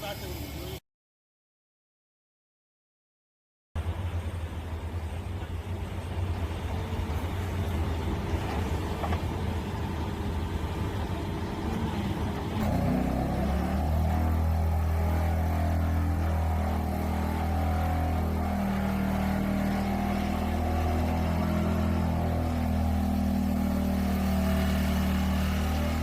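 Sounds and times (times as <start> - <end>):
pile driver low hum: 3.8 - 26.0.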